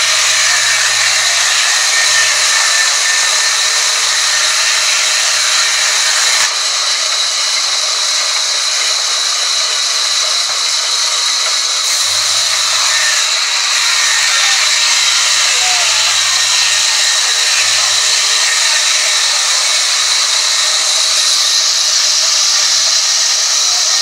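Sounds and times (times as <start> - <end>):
high whine: 0.0 - 23.4
band saw cutting wood: 0.0 - 24.0.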